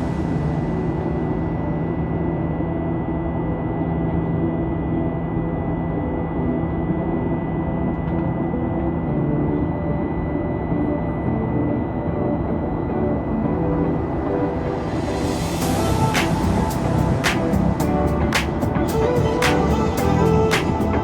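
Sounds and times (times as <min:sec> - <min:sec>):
jet airliner cabin drone: 0:00.0 - 0:21.0.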